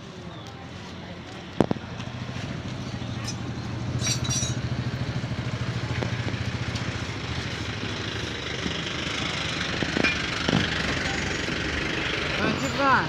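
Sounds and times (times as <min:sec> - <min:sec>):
small engine idling: 0:01.4 - 0:13.0.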